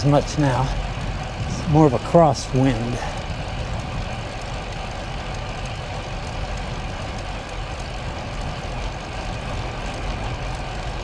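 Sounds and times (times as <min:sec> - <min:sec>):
wind rumbling over microphone: 0:00.0 - 0:11.0.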